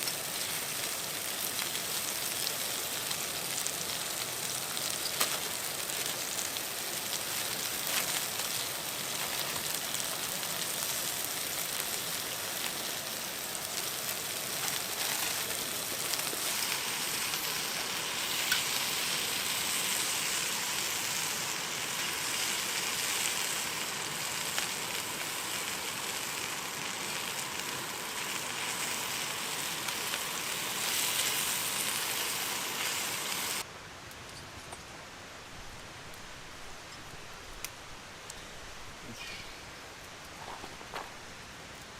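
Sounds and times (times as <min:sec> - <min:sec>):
food sizzling in a hot pan: 0:00.0 - 0:33.6.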